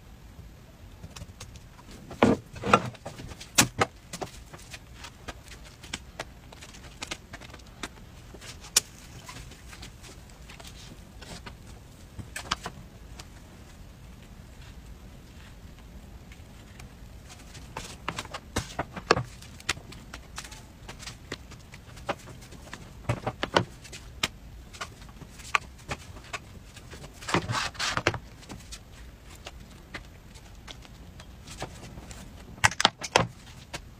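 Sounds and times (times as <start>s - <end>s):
scraping rustle: 1.2s - 33.9s.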